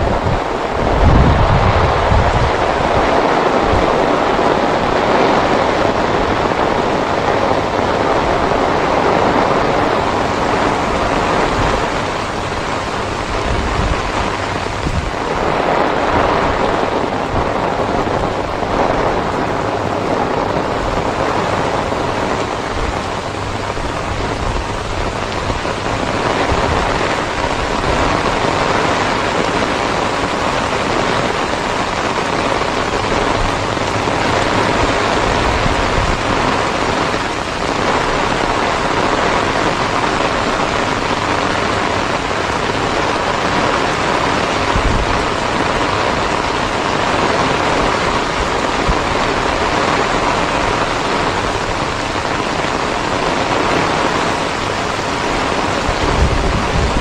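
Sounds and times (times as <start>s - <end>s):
heavy rain on a wet road: 0.0s - 57.0s
wind gusting on microphone: 0.0s - 57.0s.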